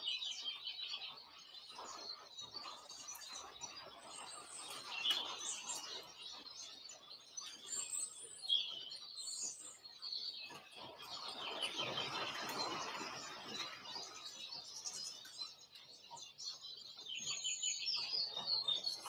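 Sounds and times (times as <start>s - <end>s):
small birds chirping and twittering: 0.0s - 19.0s.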